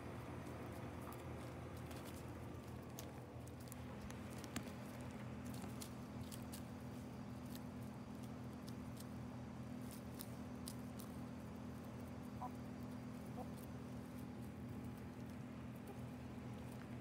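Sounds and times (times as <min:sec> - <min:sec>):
hens pecking: 0:00.0 - 0:17.0
steady low hum: 0:00.0 - 0:17.0.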